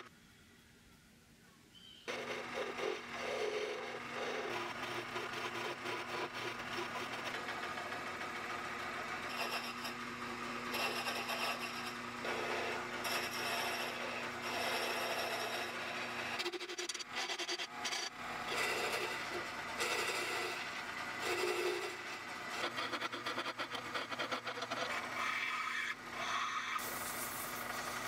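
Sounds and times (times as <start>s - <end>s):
lathe motor humming: 2.1s - 28.0s
steel tool scraping spinning wood: 2.1s - 28.0s.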